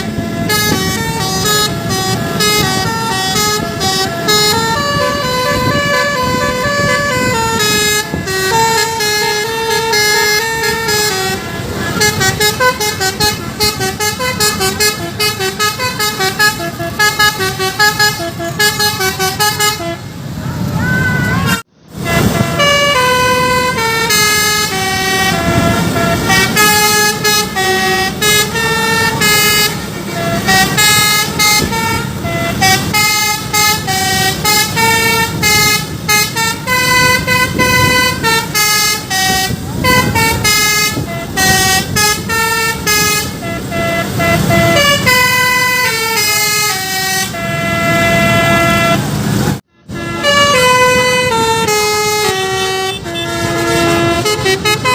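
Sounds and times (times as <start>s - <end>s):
low engine rumble: 0.0s - 54.9s
multi-tone bus horn melody: 0.0s - 54.9s.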